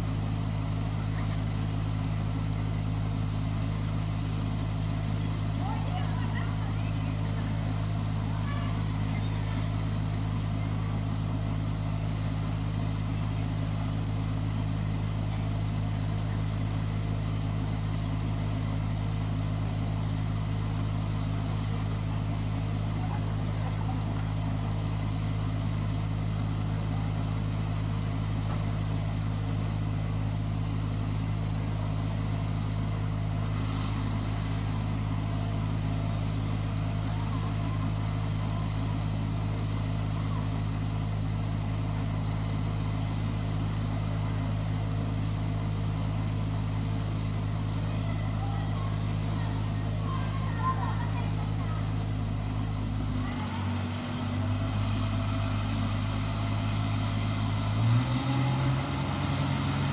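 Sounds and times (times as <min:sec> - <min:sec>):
harvester engine drone: 0:00.0 - 0:59.9.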